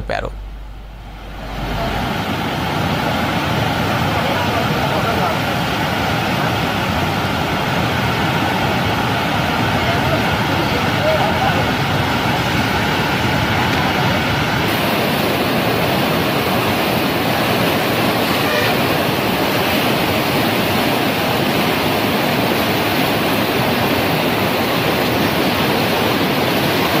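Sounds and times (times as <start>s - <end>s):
stream rushing over rocks: 1.0s - 27.0s.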